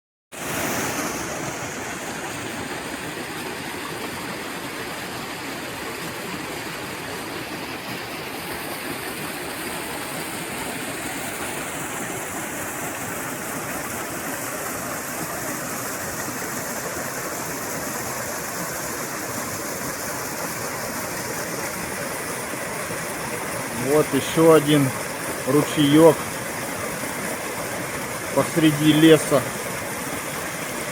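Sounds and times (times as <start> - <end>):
brook babbling: 0.4 - 30.9.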